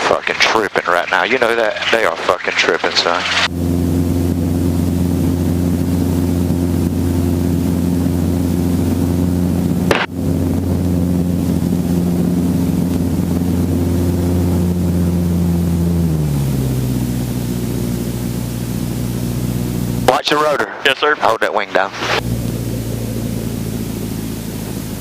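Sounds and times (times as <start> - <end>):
helicopter engine and rotor: 0.6 - 25.0.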